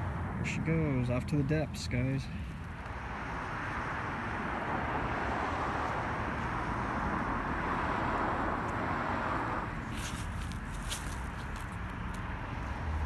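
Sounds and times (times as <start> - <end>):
road traffic rushing: 0.0 - 13.0.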